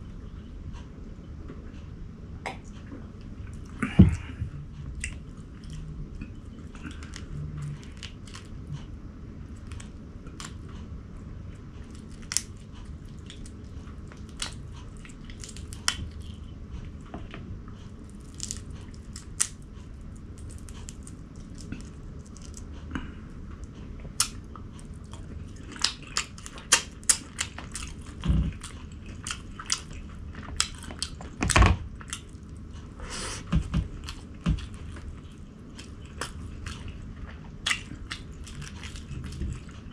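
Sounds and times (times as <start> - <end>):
steady low hum: 0.0 - 39.9
person chewing food: 2.5 - 39.9.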